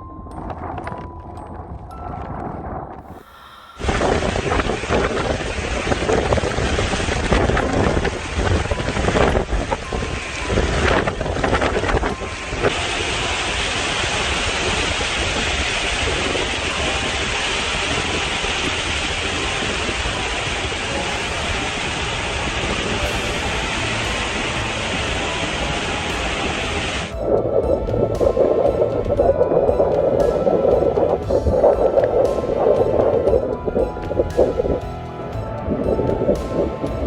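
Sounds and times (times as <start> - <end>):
storm wind buffeting microphone: 0.0 - 37.0
rushing hiss of storm: 3.1 - 34.8.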